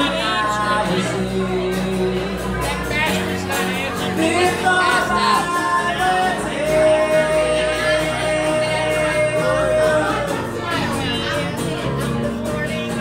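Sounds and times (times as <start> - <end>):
acoustic guitar: 0.0 - 13.0
person singing: 0.0 - 13.0.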